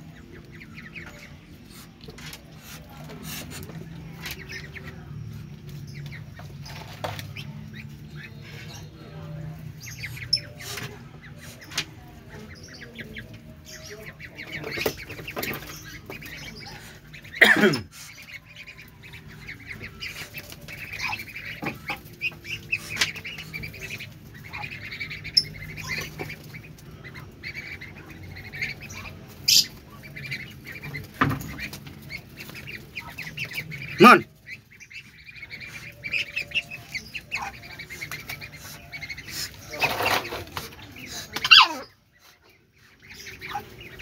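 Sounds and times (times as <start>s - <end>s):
ducklings quacking: 0.0s - 44.0s.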